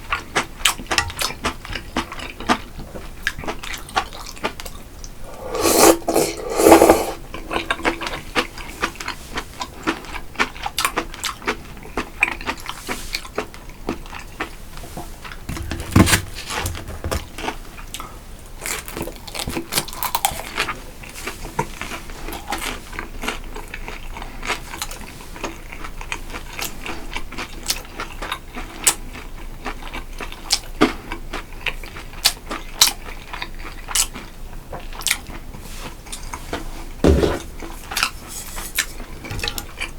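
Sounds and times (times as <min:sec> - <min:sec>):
person chewing: 0:00.1 - 0:35.5.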